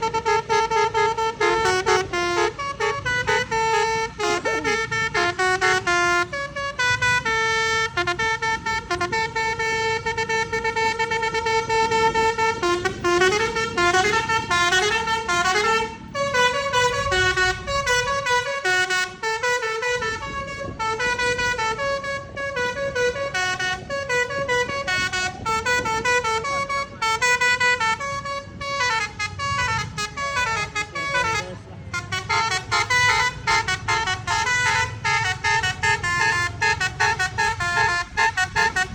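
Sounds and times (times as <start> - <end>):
multi-tone bus horn melody: 0.0 - 38.9.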